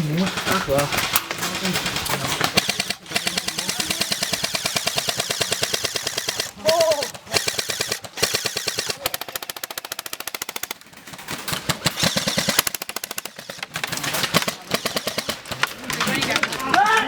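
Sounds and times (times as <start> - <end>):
airsoft gun firing full auto: 0.2 - 16.9.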